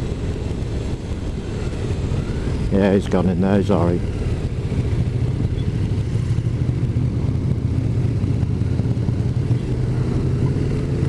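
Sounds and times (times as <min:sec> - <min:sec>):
motorcycle engine drone: 0:00.0 - 0:11.0.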